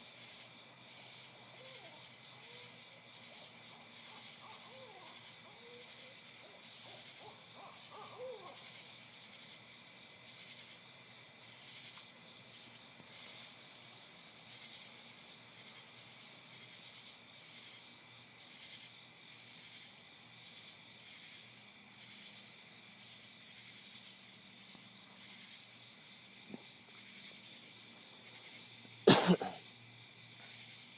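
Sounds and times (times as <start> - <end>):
night insects chorus: 0.0 - 30.9.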